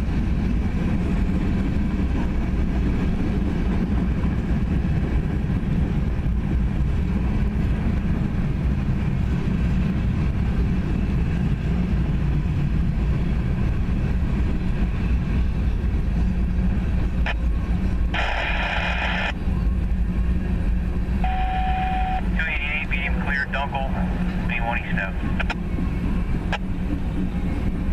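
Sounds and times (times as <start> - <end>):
freight train rumbling past: 0.0 - 27.9.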